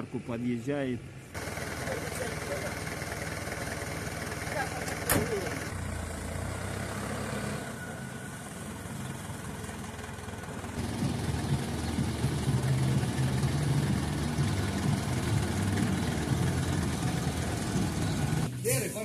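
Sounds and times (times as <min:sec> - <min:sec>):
diesel truck engine running: 0:01.0 - 0:19.0.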